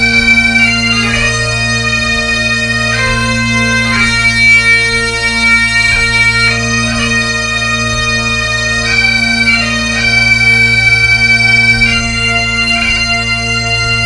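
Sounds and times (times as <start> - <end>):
bagpipe music: 0.0 - 14.0.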